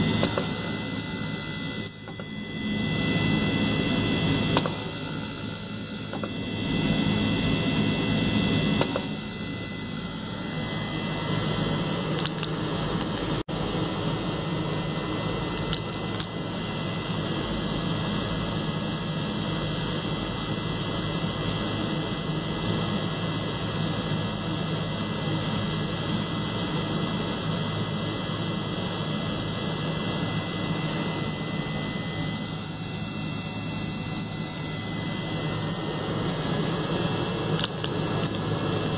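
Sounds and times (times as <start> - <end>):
circulation pump hum: 0.0 - 38.9.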